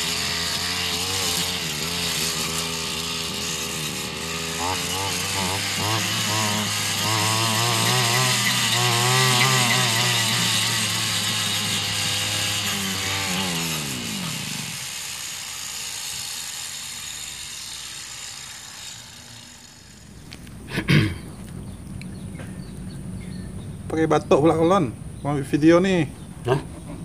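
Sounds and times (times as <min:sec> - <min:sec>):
brush cutter engine surging: 0:00.0 - 0:27.0.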